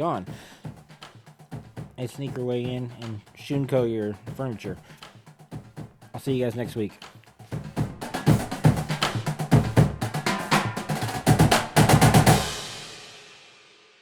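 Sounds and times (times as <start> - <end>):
fast snare and bass drum hits: 0.0 - 13.6.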